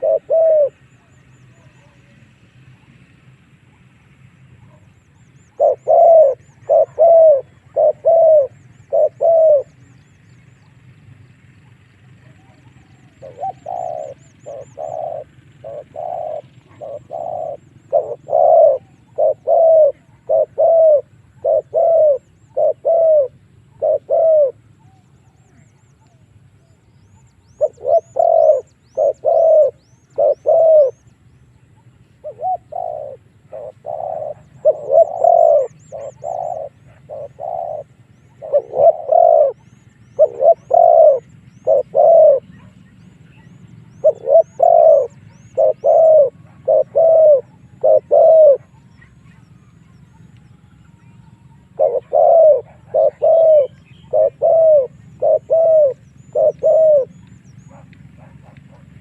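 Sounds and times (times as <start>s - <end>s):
dove cooing: 0.0s - 59.0s
small birds chirping: 3.6s - 59.0s.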